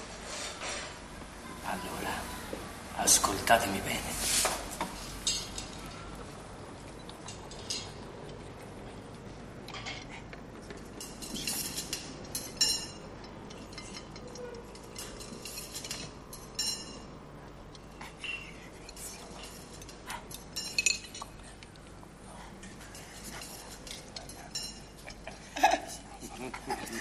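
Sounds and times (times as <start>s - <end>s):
low restaurant background: 0.0s - 27.0s
cutlery and plates clinking: 4.2s - 22.0s, 22.6s - 27.0s.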